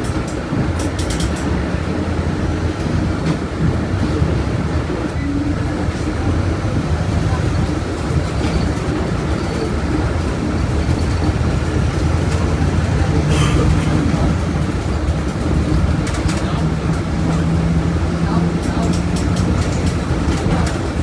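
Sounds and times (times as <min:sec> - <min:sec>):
diesel bus engine rumbling: 0:00.0 - 0:21.0.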